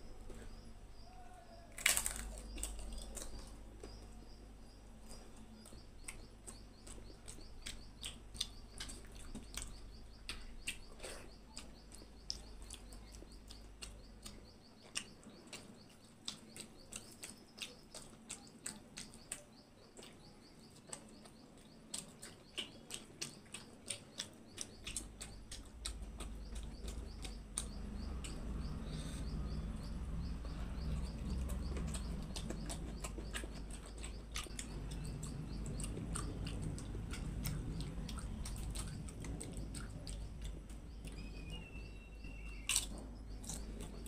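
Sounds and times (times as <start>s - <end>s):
person chewing crunchy food: 1.7s - 44.0s.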